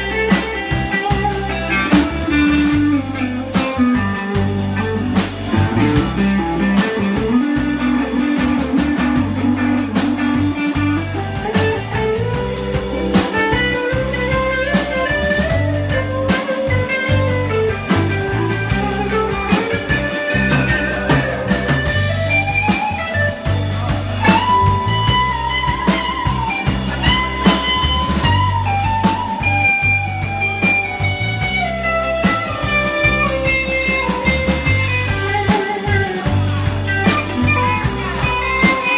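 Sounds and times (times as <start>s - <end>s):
bass guitar: 0.0s - 38.9s
drum kit: 0.0s - 38.9s
electric guitar lead: 0.0s - 38.9s.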